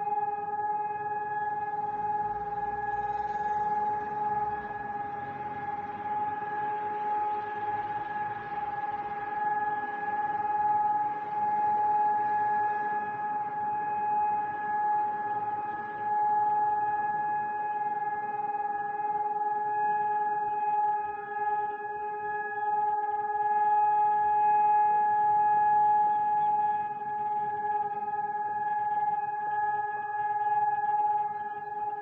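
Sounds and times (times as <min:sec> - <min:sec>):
civil defence siren steady tone: 0:00.0 - 0:32.0.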